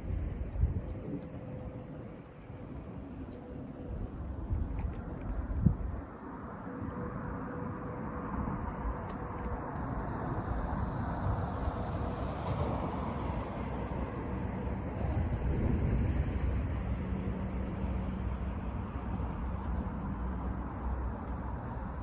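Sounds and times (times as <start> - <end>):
outdoor rushing noise with rumble: 0.0 - 22.0.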